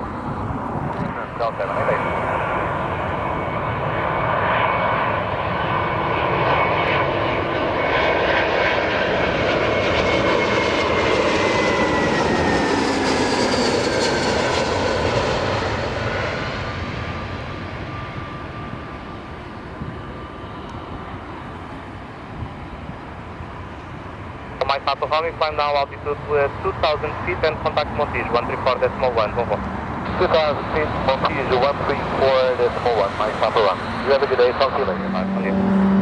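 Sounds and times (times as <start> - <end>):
jet airliner engines passing by: 0.0 - 36.0.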